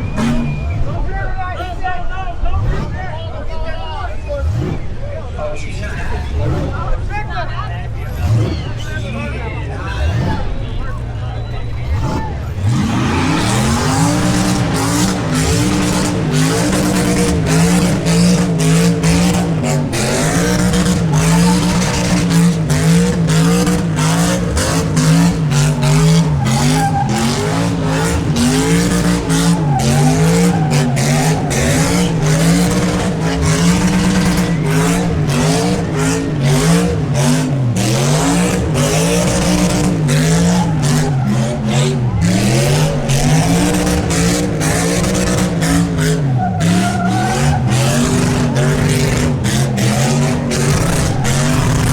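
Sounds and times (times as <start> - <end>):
car engine revving: 0.0 - 51.9
tyres squealing: 0.0 - 51.9.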